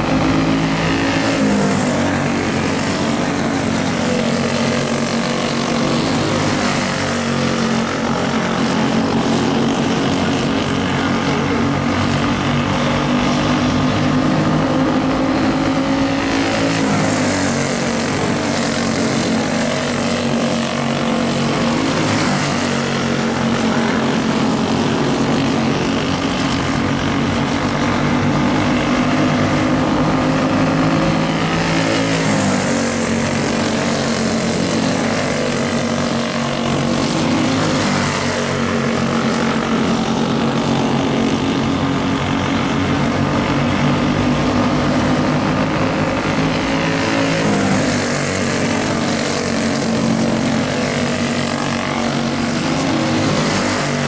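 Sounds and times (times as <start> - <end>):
kart engines racing: 0.0 - 54.0.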